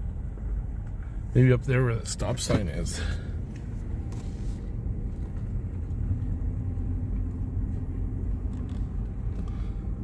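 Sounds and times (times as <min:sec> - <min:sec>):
vehicle running and rolling: 0:00.0 - 0:10.0.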